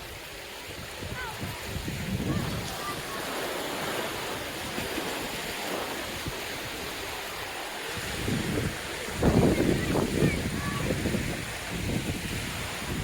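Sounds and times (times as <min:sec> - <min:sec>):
ocean waves washing ashore: 0:00.0 - 0:13.0
wind on microphone: 0:00.0 - 0:13.0.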